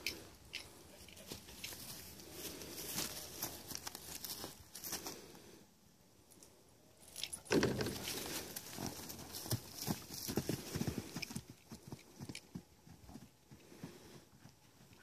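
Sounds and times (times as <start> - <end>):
horse hooves thudding on ground: 0.0 - 5.3, 7.4 - 15.0.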